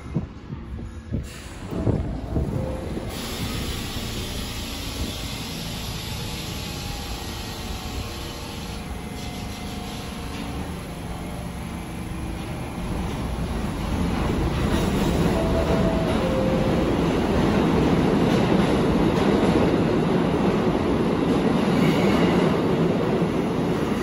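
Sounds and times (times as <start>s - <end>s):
subway train rumble with hiss: 0.0s - 24.0s.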